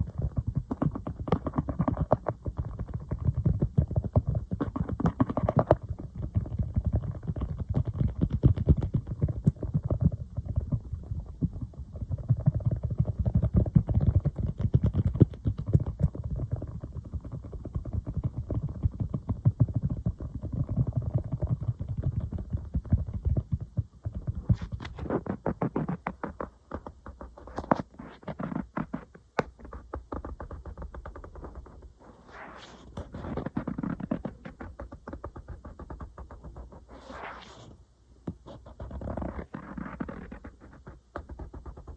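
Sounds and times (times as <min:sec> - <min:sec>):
fingers tapping on tablet: 0:00.0 - 0:41.9.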